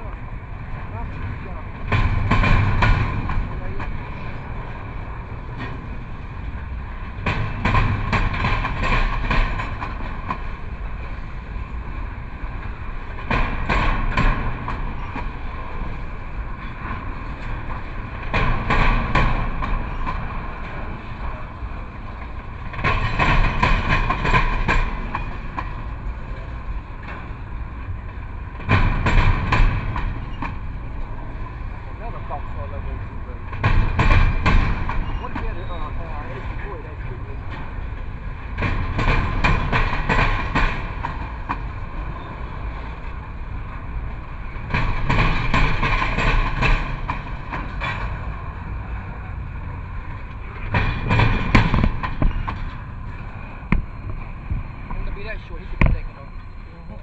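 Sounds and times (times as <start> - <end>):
freight train rumbling: 0.0 - 57.0
wheels clacking: 0.0 - 57.0.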